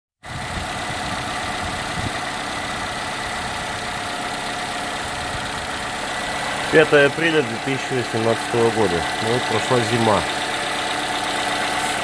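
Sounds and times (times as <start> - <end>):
car engine idling with whine: 0.2 - 12.0.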